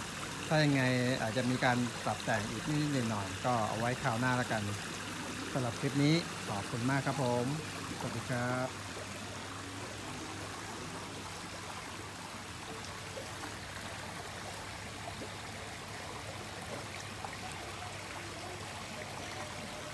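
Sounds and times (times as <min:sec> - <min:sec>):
waterfall pouring into pond: 0:00.0 - 0:19.9.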